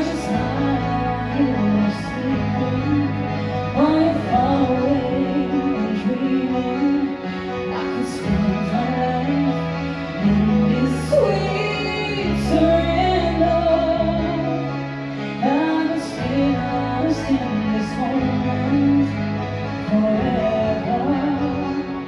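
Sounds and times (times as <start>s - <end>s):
person singing a ballad: 0.0s - 22.0s.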